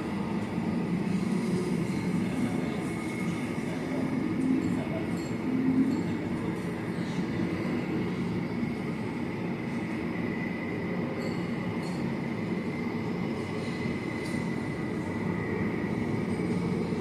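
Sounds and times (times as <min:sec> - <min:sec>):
aircraft engine rumble and whine: 0:00.0 - 0:17.0.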